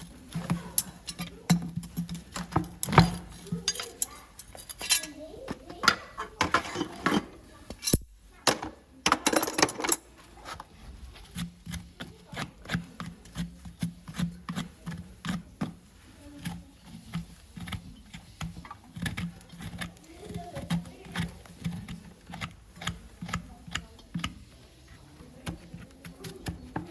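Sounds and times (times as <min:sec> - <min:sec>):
metal tools clicking on hoof: 0:00.0 - 0:08.0, 0:11.1 - 0:26.9.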